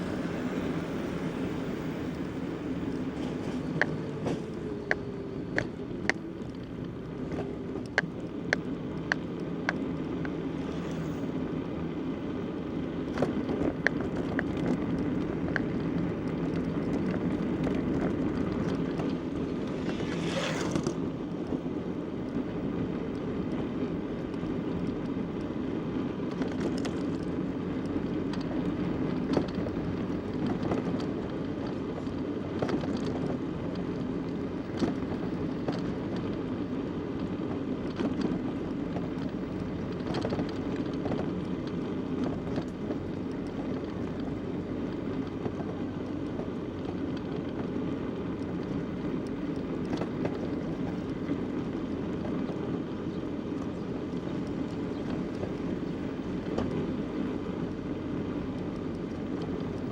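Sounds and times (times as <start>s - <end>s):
bicycle rolling along a road: 0.0s - 59.9s
sharp clicks and rattles: 1.2s - 10.4s, 13.0s - 22.4s, 26.2s - 36.5s, 37.3s - 59.9s.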